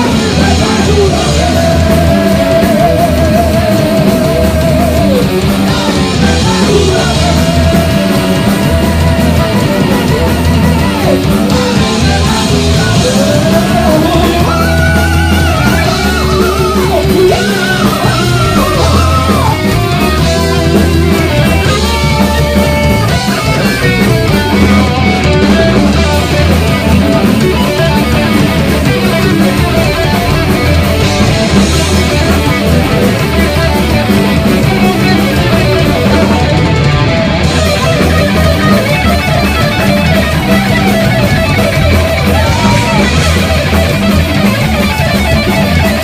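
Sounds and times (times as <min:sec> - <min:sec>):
electric guitar lead melody with bends: 0:00.0 - 0:46.0
heavy metal band playing live: 0:00.0 - 0:46.0.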